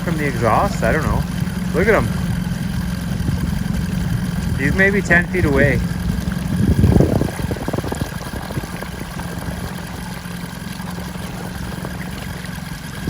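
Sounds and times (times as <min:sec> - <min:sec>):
boat engine low hum: 0:00.0 - 0:13.0.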